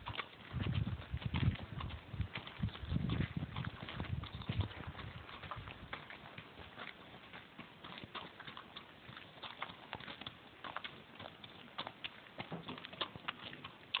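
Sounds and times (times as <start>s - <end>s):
hoofbeats on gravel: 0.0s - 14.0s.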